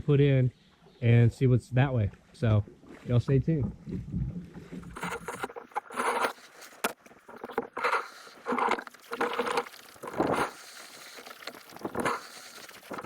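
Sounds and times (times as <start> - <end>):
paddle water swishes: 2.1 - 13.0.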